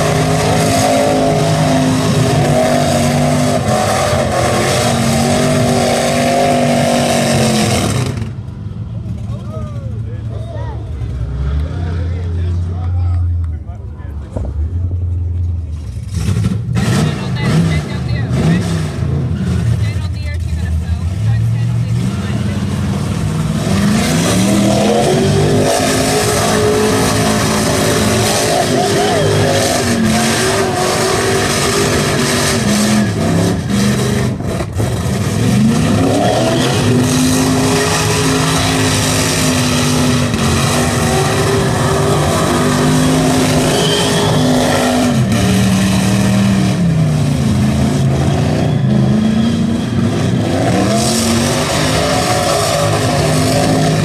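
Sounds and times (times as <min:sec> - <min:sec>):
car engine at high revs: 0:00.0 - 0:09.3, 0:14.3 - 0:54.0.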